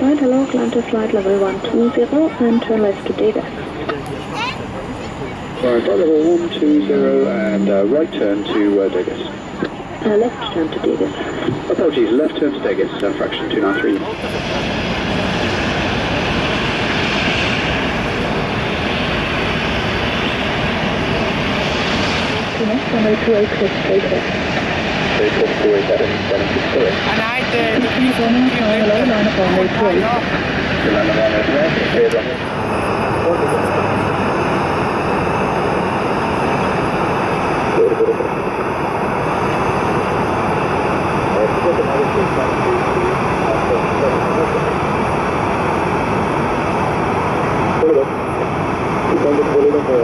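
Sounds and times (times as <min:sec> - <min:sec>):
jet engines running: 0:00.0 - 0:50.0.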